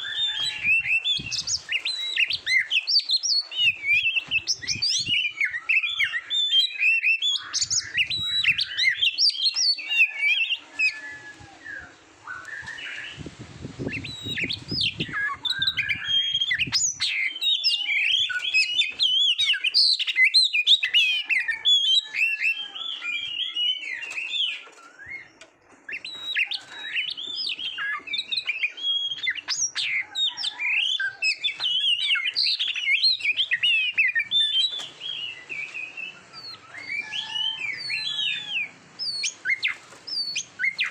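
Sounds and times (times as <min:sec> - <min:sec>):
bird singing whistles and chirps: 0:00.0 - 0:13.2, 0:13.8 - 0:40.9.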